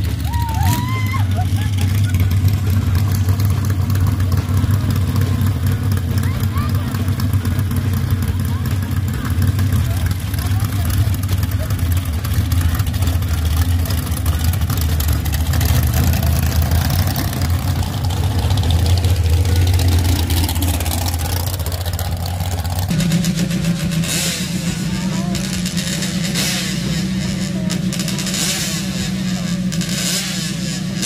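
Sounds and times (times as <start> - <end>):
drag racer engine launching: 0.0 - 31.0
high-pitched engine idling: 0.0 - 31.0.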